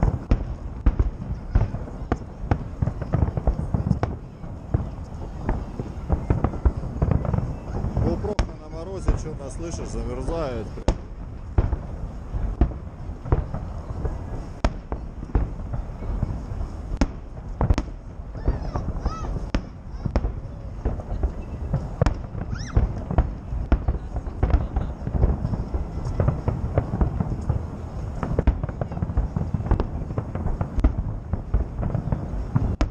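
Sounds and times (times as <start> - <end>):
fireworks bangs and booms: 0.0 - 32.9.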